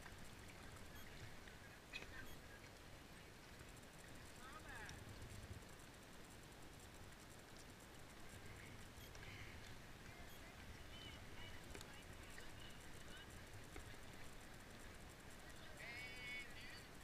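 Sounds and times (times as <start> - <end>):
faint distant calls: 0.0 - 17.0.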